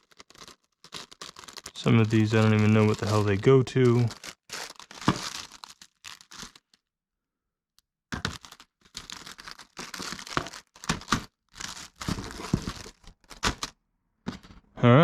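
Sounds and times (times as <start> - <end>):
plastic packaging crinkling: 0.0 - 6.8, 8.2 - 13.7.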